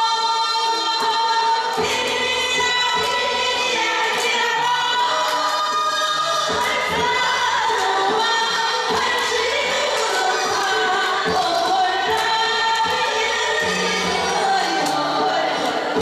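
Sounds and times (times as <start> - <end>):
folk song singing: 0.0 - 16.0
percussion hits: 0.8 - 16.0.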